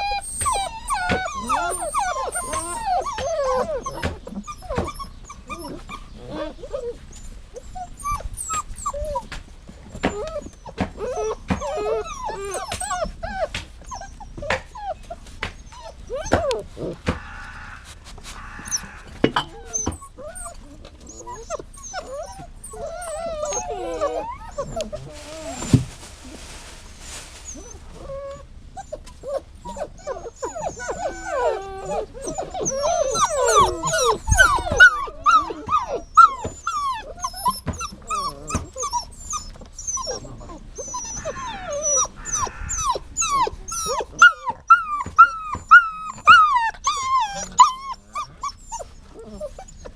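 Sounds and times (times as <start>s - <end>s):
dog whining and whimpering: 0.0s - 17.0s, 18.6s - 25.8s, 27.4s - 49.9s.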